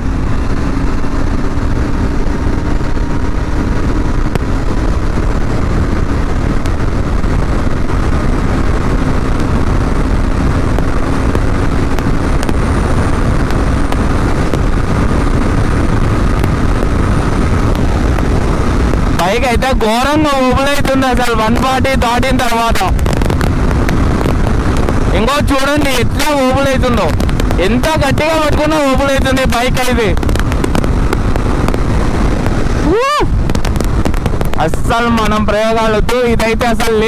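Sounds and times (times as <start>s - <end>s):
motorcycle engine at high speed: 0.0s - 37.0s
wind rush on microphone: 0.0s - 37.0s.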